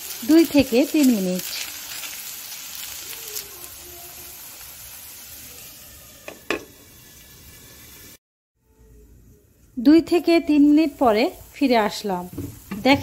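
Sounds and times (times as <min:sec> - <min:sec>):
batter sizzling in hot oil: 0:00.0 - 0:08.2, 0:09.6 - 0:13.0.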